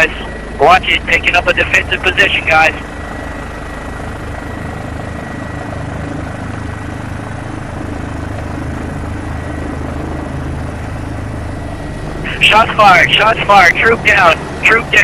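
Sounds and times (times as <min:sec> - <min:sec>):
helicopter rotor and engine droning: 0:00.0 - 0:15.0
high whine: 0:00.0 - 0:15.0.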